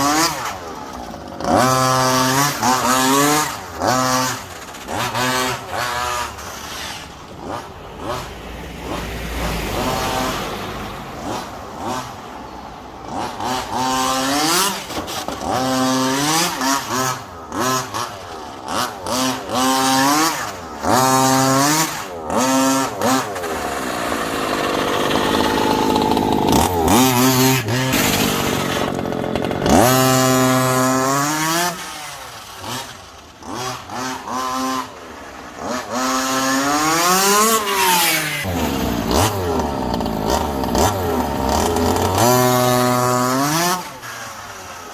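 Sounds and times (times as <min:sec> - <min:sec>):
two-stroke engine revving: 0:00.0 - 0:44.9.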